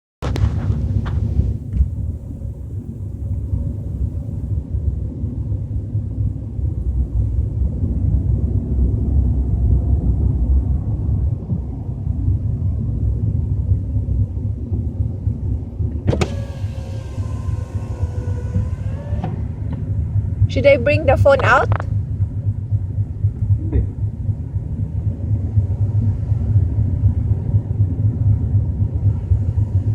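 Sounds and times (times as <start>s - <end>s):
deep steady car cabin rumble: 0.2s - 29.9s.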